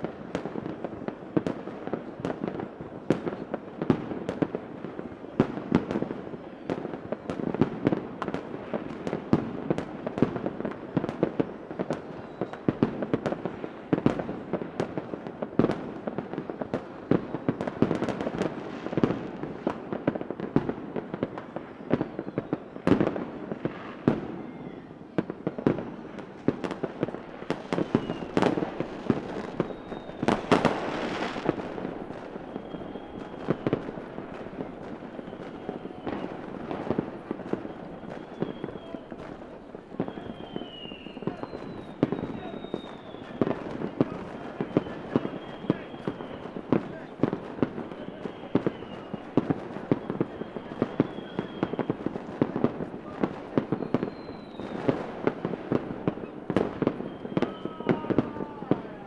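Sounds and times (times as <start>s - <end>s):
fireworks bangs and crackling: 0.0s - 59.0s
fireworks whistles: 0.0s - 59.0s.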